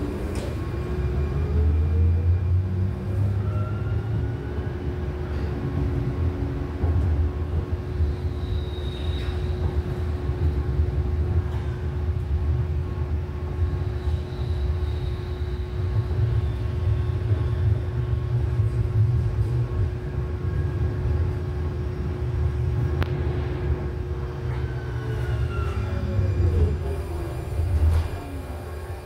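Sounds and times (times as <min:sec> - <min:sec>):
light rail train rumbling: 0:00.0 - 0:29.0.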